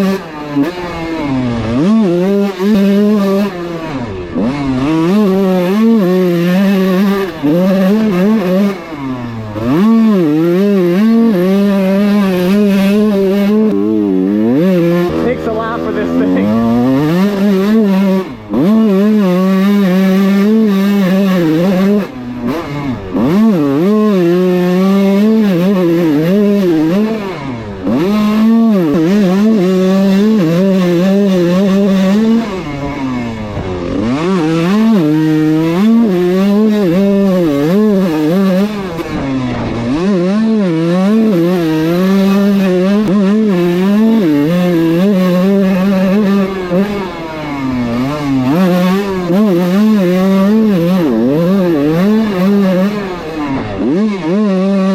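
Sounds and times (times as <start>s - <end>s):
two-stroke dirt bike engine revving: 0.0s - 54.9s.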